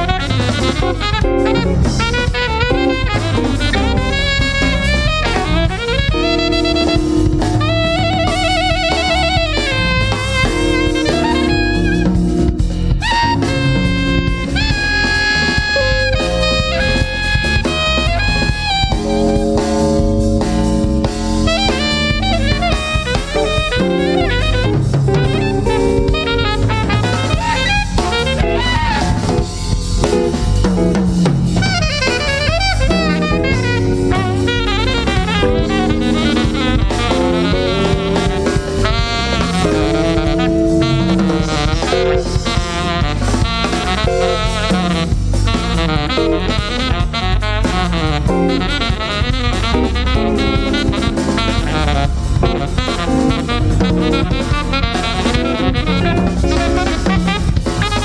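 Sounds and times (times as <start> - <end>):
alto saxophone: 0.0 - 58.0
drum kit: 0.0 - 58.0
electric bass: 0.0 - 58.0
guitar: 0.0 - 58.0.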